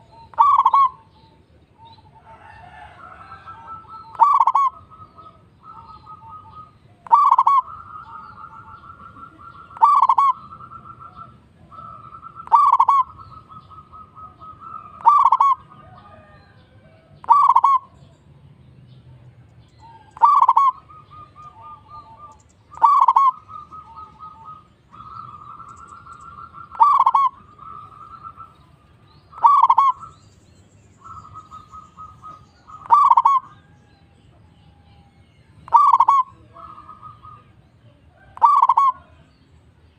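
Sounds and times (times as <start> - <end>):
doves cooing: 0.0 - 18.0, 19.7 - 30.4, 31.0 - 34.9, 35.5 - 39.3.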